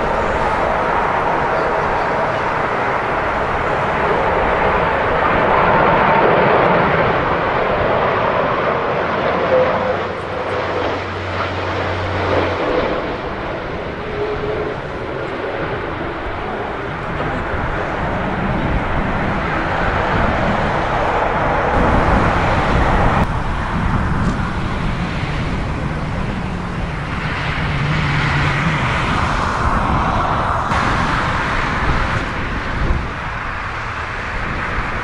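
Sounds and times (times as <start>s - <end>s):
jet engine roar: 0.0s - 35.0s
wind buffeting microphone: 0.0s - 35.0s.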